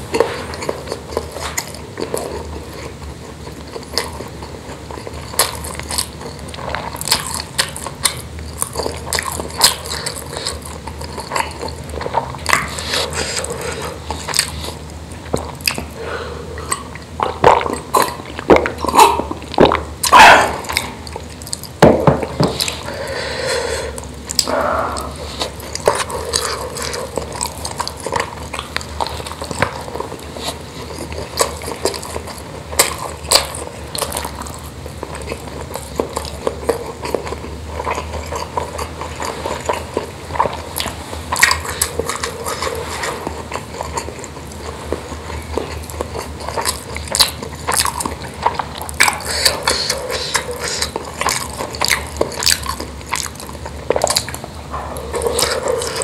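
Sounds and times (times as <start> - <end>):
person chewing wetly: 0.0 - 56.0.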